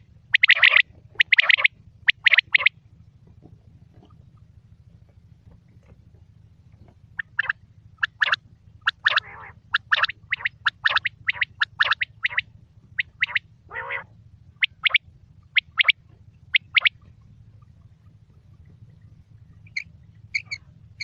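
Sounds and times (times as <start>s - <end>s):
quail calling: 0.0s - 2.8s, 6.8s - 21.0s
faint low hum: 0.0s - 21.0s.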